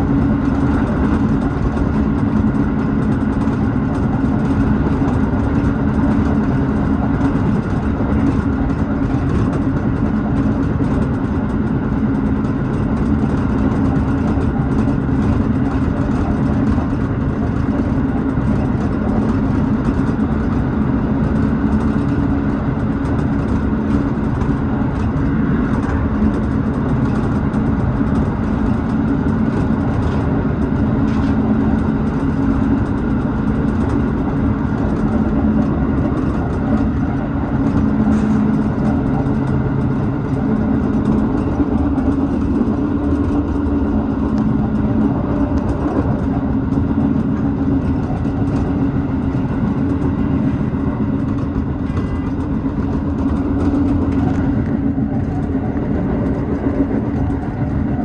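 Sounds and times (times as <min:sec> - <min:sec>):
electric train running: 0:00.0 - 0:58.0.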